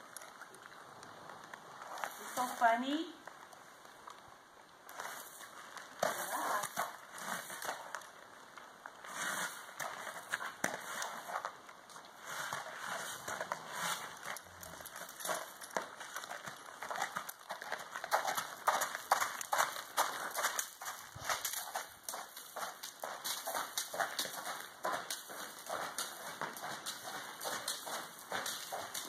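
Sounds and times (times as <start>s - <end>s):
horse hooves on sand: 0.0s - 4.2s, 4.8s - 29.0s.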